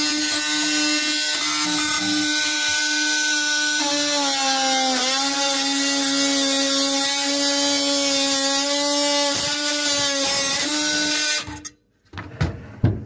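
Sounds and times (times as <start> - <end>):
oscillating multi-tool whining: 0.0 - 11.6.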